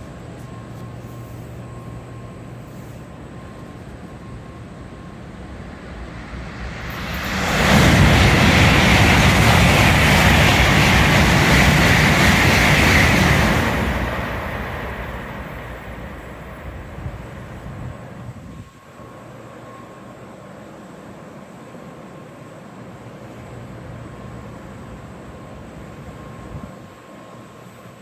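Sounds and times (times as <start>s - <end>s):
high-speed train passing: 0.0s - 28.0s.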